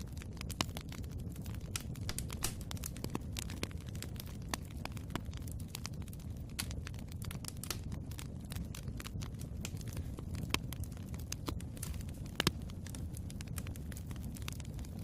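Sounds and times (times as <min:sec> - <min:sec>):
sharp pops and snaps: 0:00.0 - 0:15.0
wood fire crackling: 0:00.0 - 0:15.0.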